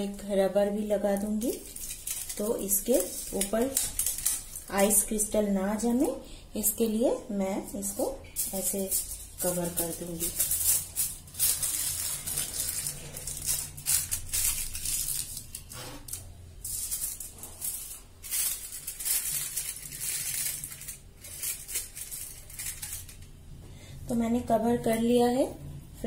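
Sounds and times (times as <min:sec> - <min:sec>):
aluminium foil crinkling: 0:00.0 - 0:07.0, 0:07.7 - 0:23.5.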